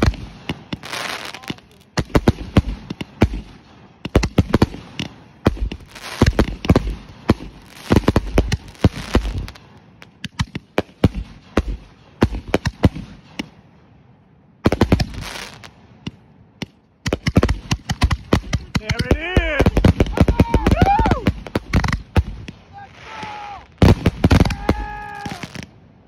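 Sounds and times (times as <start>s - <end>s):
fireworks bangs: 0.0s - 13.6s, 14.6s - 25.8s.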